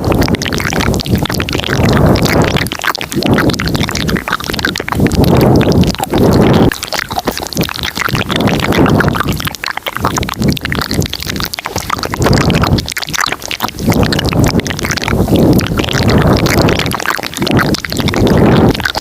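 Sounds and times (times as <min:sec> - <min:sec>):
wet mouth clicks and smacks: 0:00.0 - 0:19.0.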